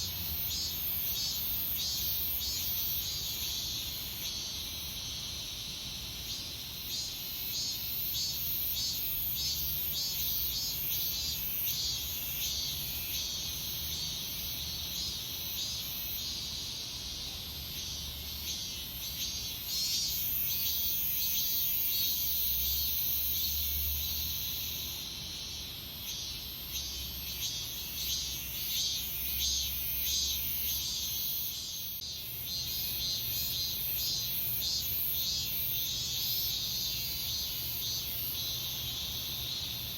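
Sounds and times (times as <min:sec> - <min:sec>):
cicadas chorus pulsing: 0:00.0 - 0:39.9
high continuous cicada buzz: 0:00.0 - 0:39.9.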